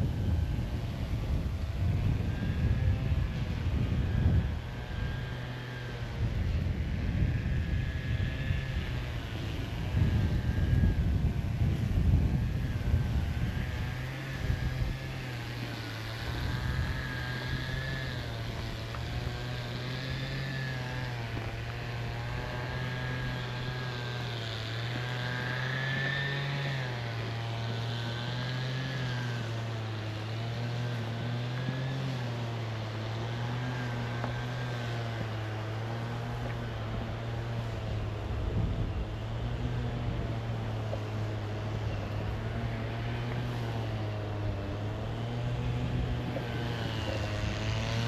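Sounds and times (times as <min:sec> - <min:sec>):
engine drone: 0:00.0 - 0:48.0.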